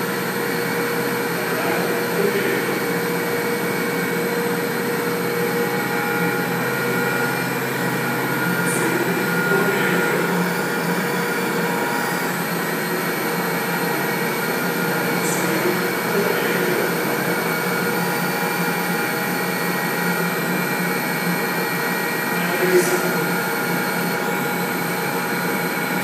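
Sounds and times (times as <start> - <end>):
helicopter noise: 0.0 - 26.0
quadcopter rotors whirring: 0.1 - 26.0.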